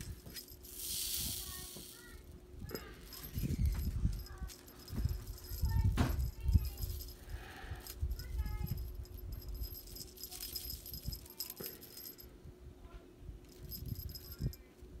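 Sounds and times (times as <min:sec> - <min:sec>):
cat toy string jingling: 0:00.0 - 0:12.3, 0:13.5 - 0:14.7.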